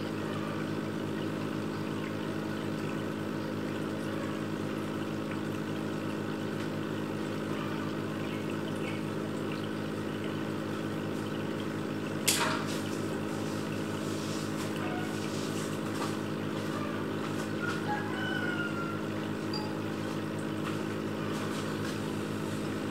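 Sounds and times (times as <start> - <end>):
aquarium pump humming: 0.0 - 22.9
water trickling: 0.0 - 22.9.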